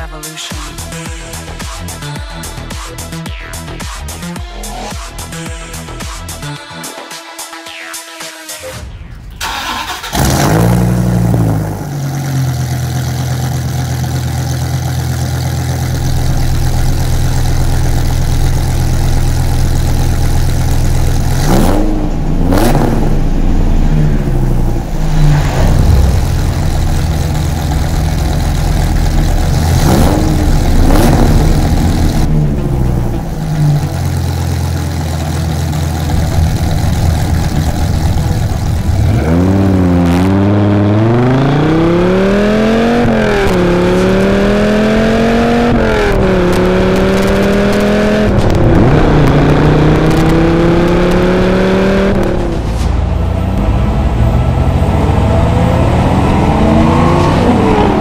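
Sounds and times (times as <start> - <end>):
car engine idling and revving: 0.0 - 6.8, 9.2 - 58.0.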